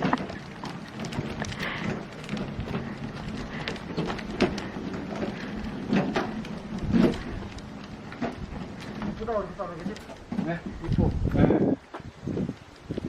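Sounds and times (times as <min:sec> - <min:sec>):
heavy wooden thuds: 0:00.0 - 0:12.4
firewood logs knocking: 0:00.0 - 0:13.0.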